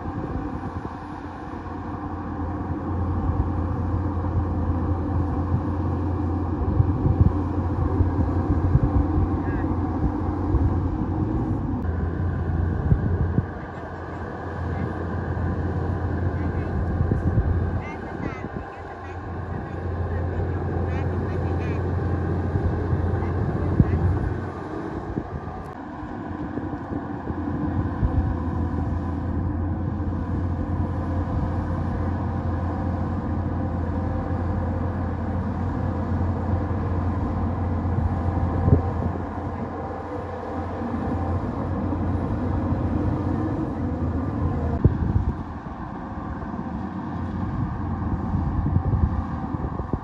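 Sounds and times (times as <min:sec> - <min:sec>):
bulldozer engine running: 0:00.0 - 0:50.0.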